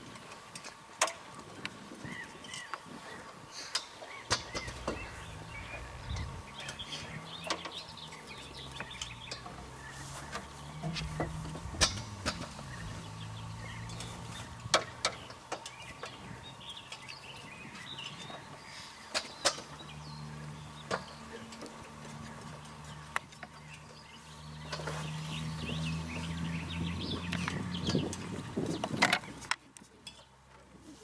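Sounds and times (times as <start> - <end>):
low steady hum: 0.0 - 31.0
birds chirping: 1.4 - 30.5
propeller clicks and knocks: 3.7 - 30.7.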